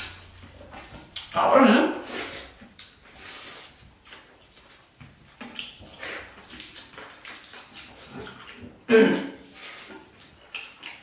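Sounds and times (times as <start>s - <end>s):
wet chewing and mouth sounds: 0.0s - 11.0s.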